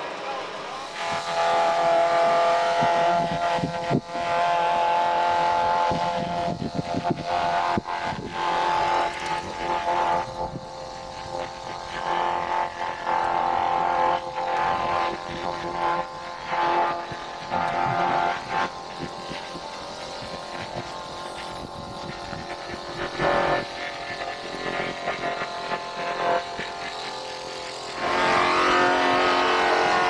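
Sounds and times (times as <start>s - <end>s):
steam traction engine whine: 0.0s - 30.0s.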